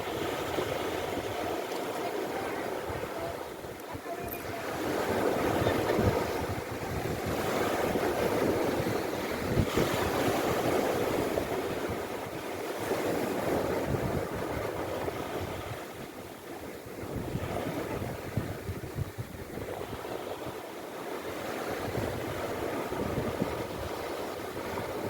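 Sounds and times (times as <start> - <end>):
sea waves breaking on shore: 0.0 - 25.0
wind buffeting microphone: 0.0 - 25.0.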